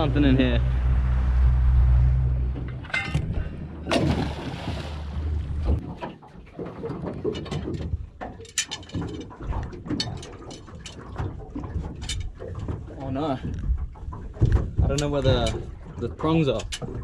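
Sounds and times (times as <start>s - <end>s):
gear knocking and rattling in boat: 2.4s - 17.0s.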